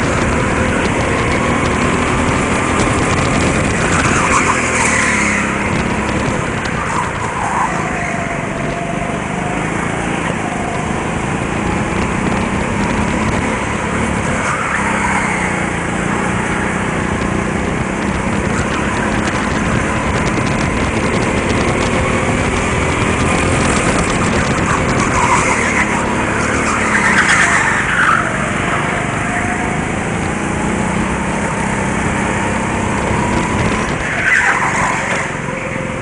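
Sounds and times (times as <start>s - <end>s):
go-kart engine running: 0.0s - 36.0s
tyre and rushing noise: 0.0s - 36.0s.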